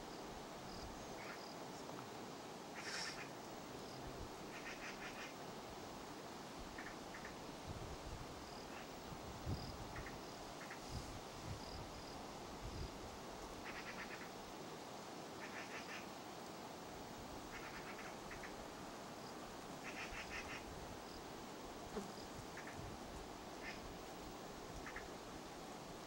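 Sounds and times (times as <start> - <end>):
low steady hiss: 0.0 - 26.0.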